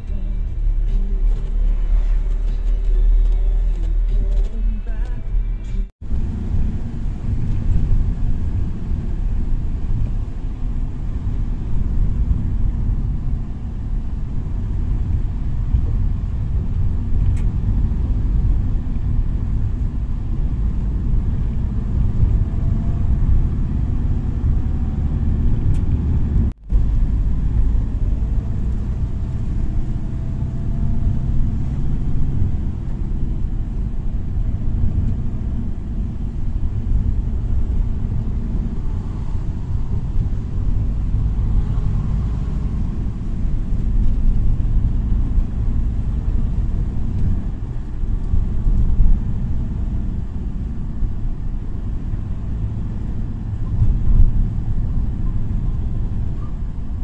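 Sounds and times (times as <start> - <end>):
car engine rumble and road noise: 0.0 - 57.0.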